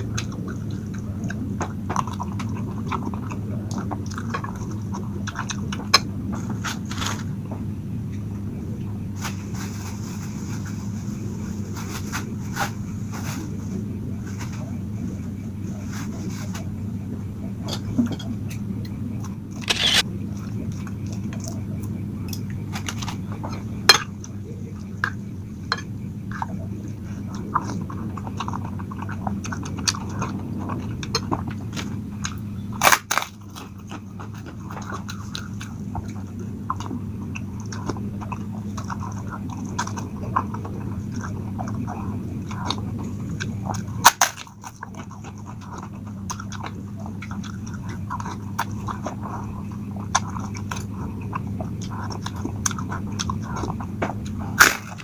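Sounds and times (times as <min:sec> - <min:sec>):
person chewing noodles: 0:00.0 - 0:07.4, 0:17.7 - 0:55.0
steady low hum: 0:00.0 - 0:55.0.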